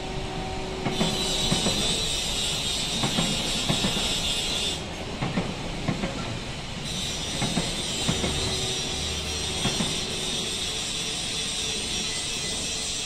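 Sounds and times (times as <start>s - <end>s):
train wheels clattering over rail joints: 0.8s - 13.0s.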